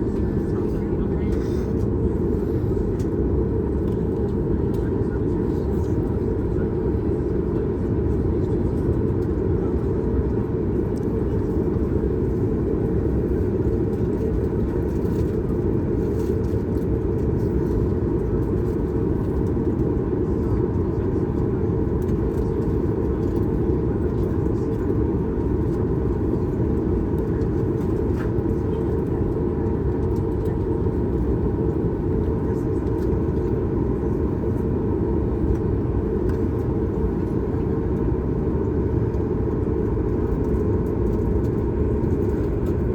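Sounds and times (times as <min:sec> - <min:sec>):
airplane cabin drone: 0:00.0 - 0:42.9.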